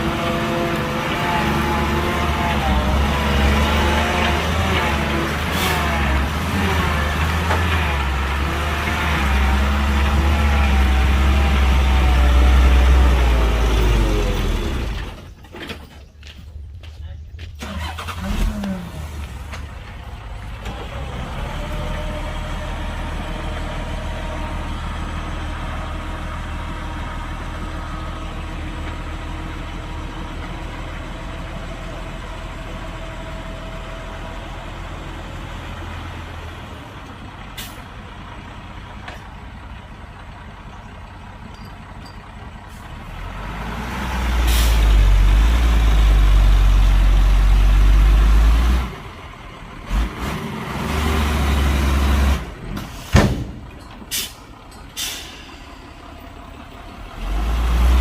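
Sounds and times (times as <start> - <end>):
heavy diesel engine running: 0.0 - 15.4, 16.2 - 58.0.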